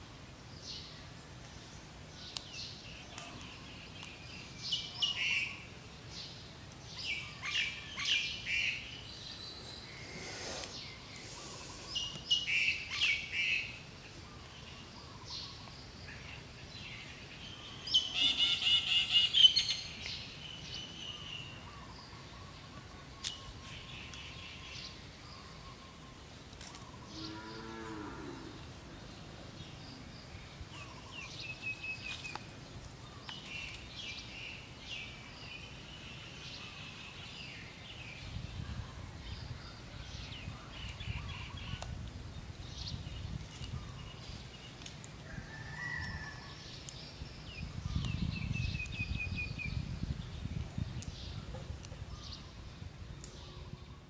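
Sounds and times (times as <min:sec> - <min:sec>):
birds chirping and trilling: 0:00.5 - 0:54.0.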